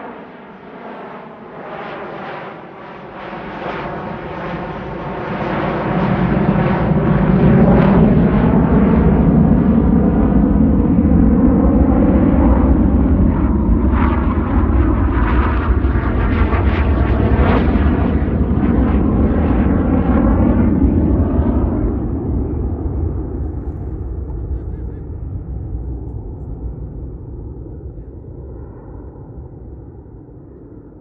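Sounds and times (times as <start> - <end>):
jet aircraft flying past: 0.0 - 31.0.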